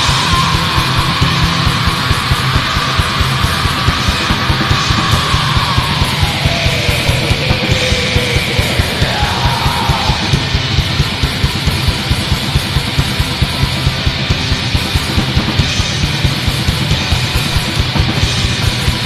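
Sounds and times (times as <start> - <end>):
distorted guitars: 0.0 - 19.0
fast drums: 0.0 - 19.0
high sliding guitar line: 0.0 - 19.0.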